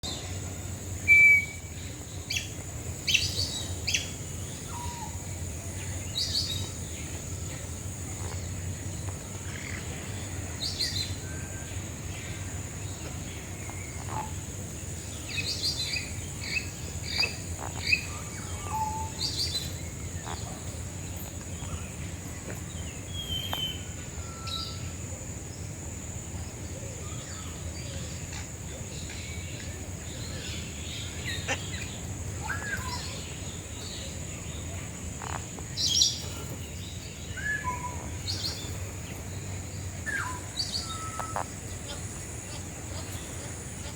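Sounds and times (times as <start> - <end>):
birds calling: 0.0 - 25.0, 27.0 - 43.9
steady high-pitched hiss: 0.0 - 43.9.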